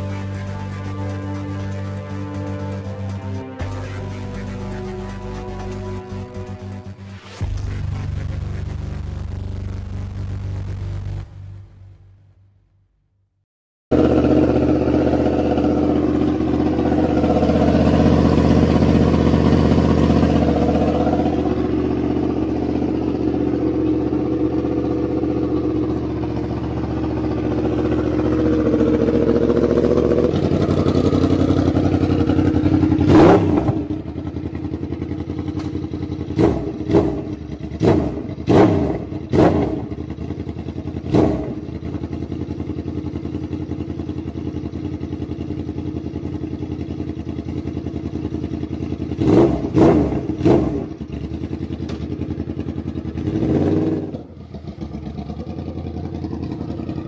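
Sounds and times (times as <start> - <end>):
motorcycle engine idling and revving: 0.0 - 12.2, 13.9 - 57.0.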